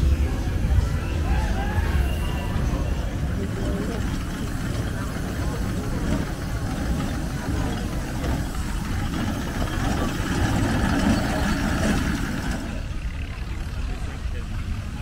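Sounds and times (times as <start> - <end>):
steam roller rumbling: 0.0 - 15.0.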